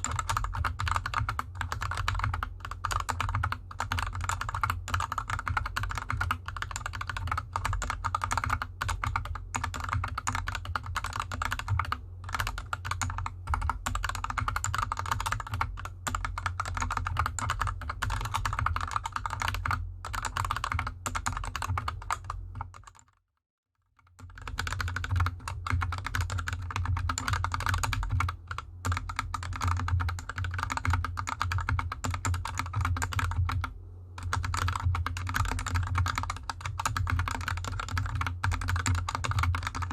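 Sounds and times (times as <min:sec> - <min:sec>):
mechanical keyboard typing: 0:00.0 - 0:23.2, 0:23.9 - 0:39.9.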